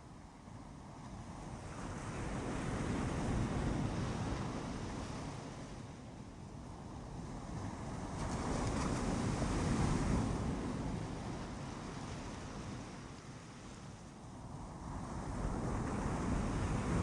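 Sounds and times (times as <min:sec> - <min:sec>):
ocean waves on a beach: 0:00.0 - 0:17.0.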